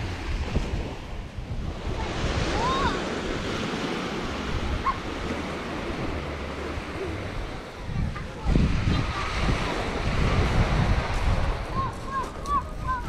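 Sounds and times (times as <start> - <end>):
sea surf washing onto shore: 0.0 - 13.0
wind rumbling on microphone: 0.0 - 13.0.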